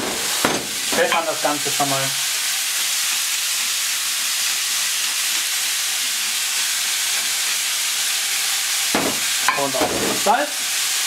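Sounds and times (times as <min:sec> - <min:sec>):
meat and vegetables sizzling: 0:00.0 - 0:11.0.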